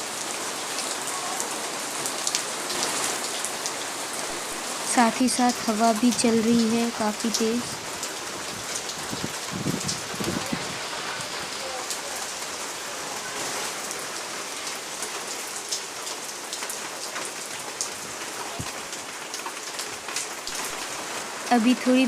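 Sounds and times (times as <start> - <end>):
raindrops ticking on surface: 0.0 - 22.0
steady rain: 0.0 - 22.0.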